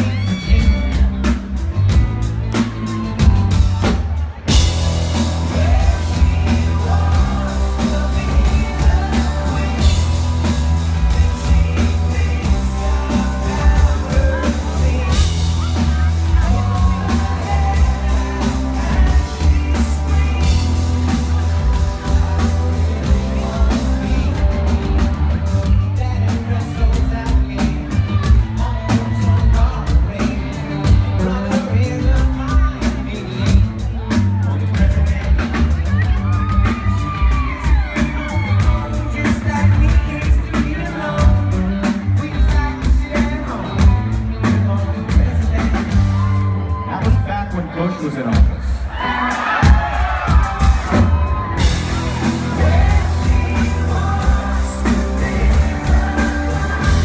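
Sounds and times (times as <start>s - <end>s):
man singing: 0.0s - 57.0s
pop-rock band playing: 0.0s - 57.0s.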